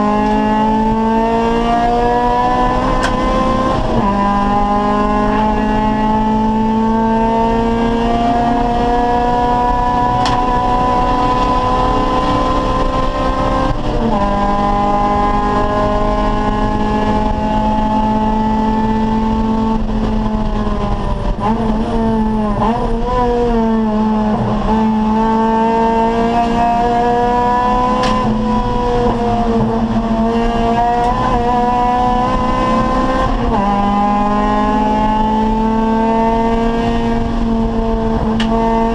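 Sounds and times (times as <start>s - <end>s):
car engine revving hard: 0.0s - 38.9s.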